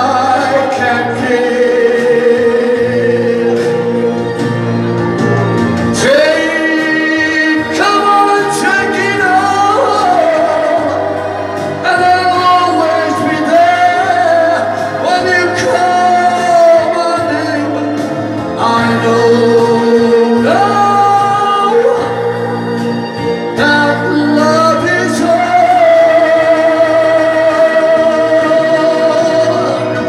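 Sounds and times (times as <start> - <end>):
man singing into a microphone: 0.0 - 30.0
recorded backing track: 0.0 - 30.0.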